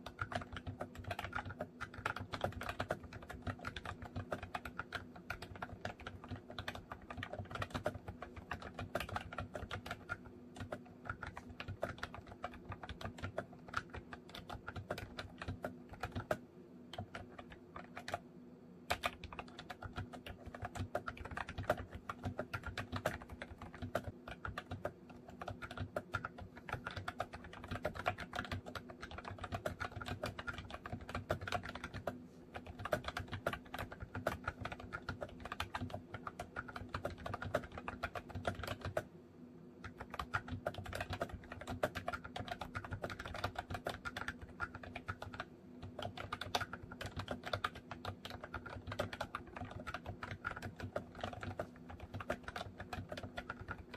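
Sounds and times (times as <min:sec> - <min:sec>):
fast typing on keyboard: 0:00.0 - 0:39.1, 0:39.8 - 0:53.9.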